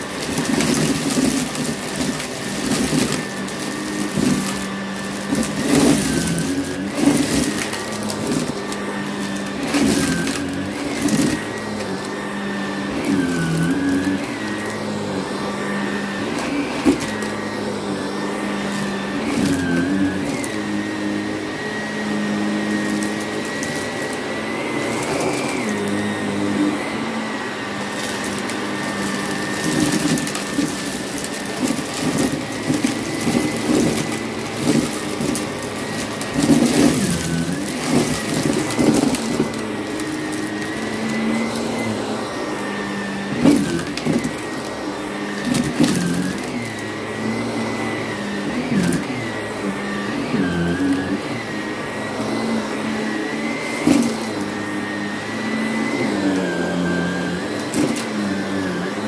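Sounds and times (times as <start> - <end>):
brushing and rustling on rug: 0.0 - 59.0
vacuum cleaner motor whine: 0.0 - 59.0.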